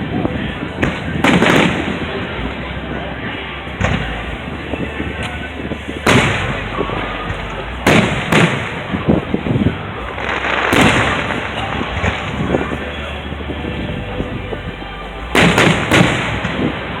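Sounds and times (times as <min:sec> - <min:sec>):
firework pops and crackling: 0:00.2 - 0:02.6, 0:03.8 - 0:17.0
firework shells bursting: 0:00.6 - 0:02.9, 0:03.7 - 0:17.0.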